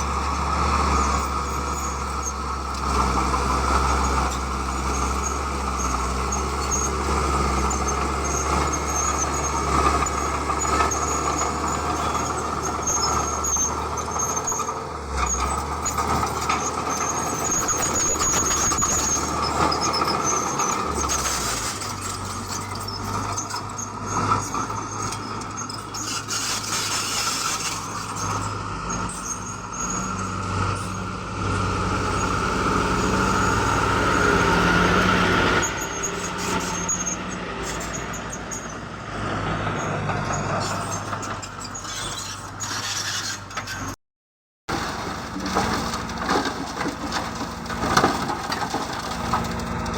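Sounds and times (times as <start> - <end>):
diesel machinery engine drone: 0.0 - 44.0, 44.7 - 49.9
high squeal: 0.0 - 44.0.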